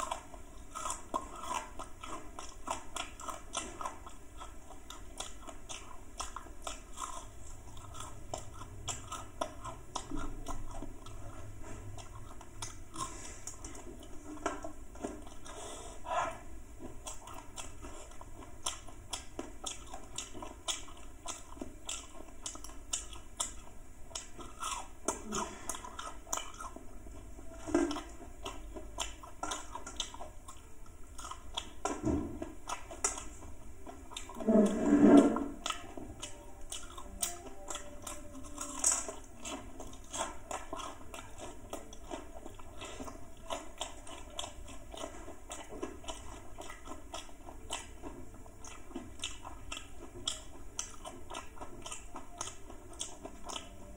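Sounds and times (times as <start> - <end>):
person chewing crunchy food: 0.0 - 53.9.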